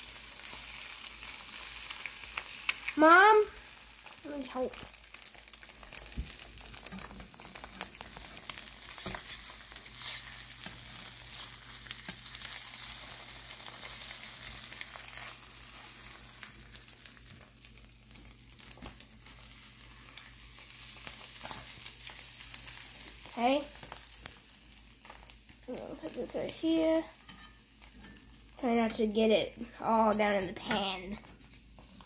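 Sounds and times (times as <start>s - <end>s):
eggs sizzling in a pan: 0.0s - 32.0s.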